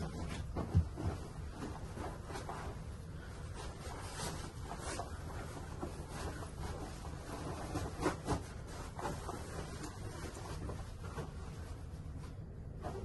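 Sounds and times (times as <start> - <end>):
bed linen rustling: 0.0 - 13.0
steady low hum: 0.0 - 13.0.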